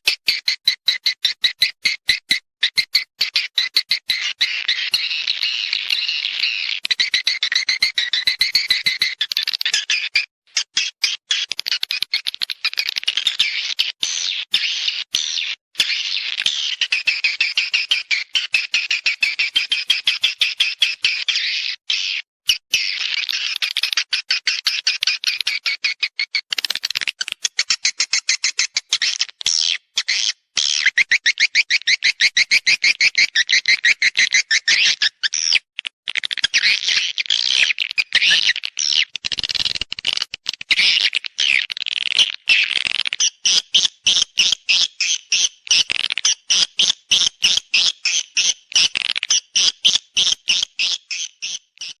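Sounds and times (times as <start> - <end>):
bird chattering clicks and chirps: 0.0 - 52.0.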